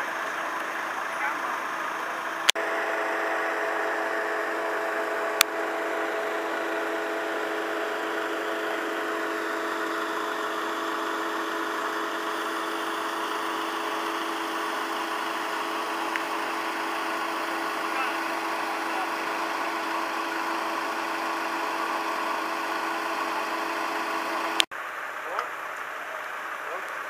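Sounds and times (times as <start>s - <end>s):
engine droning hum: 0.0s - 27.0s.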